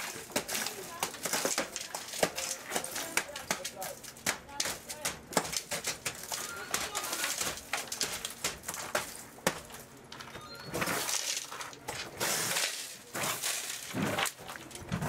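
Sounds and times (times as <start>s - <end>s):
footsteps crunching on broken glass: 0.0s - 14.9s.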